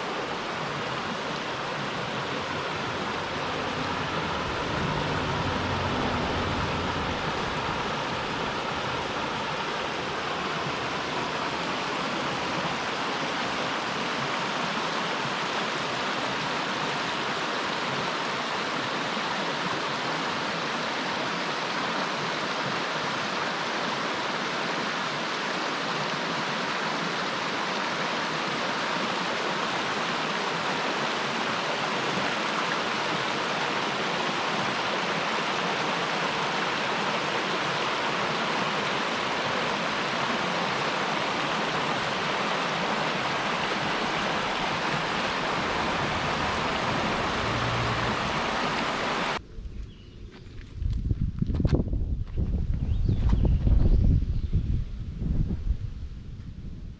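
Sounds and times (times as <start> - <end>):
stream rushing over rocks: 0.0 - 49.4.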